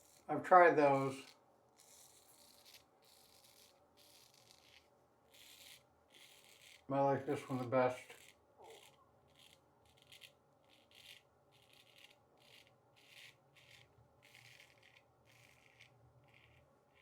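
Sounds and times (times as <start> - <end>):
razor scraping stubble: 0.0 - 17.0.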